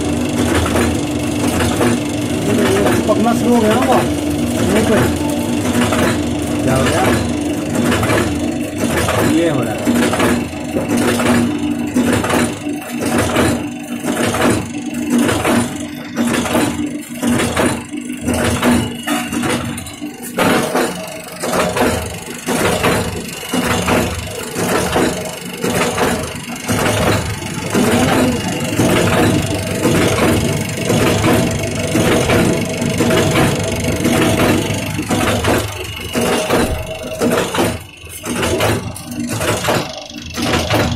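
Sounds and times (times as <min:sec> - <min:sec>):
motor hum: 0:00.0 - 0:40.9.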